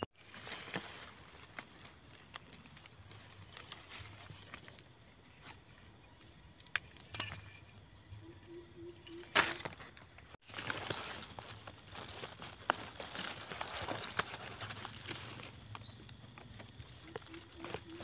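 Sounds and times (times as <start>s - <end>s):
dry leaves rustling and crackling: 0.1s - 6.0s, 9.3s - 18.0s.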